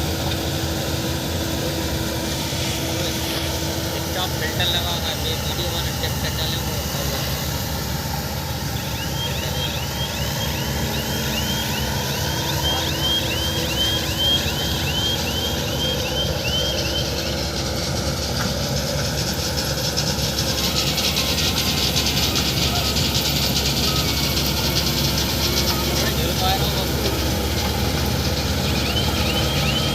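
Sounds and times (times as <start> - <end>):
combine harvester running: 0.0 - 29.9.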